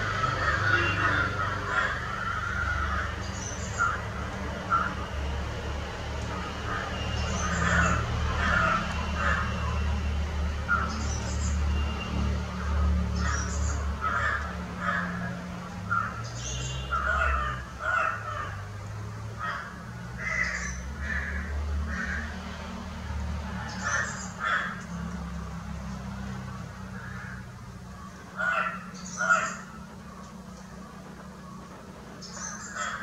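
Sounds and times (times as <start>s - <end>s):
birds calling harshly: 0.0s - 22.8s, 23.4s - 33.0s.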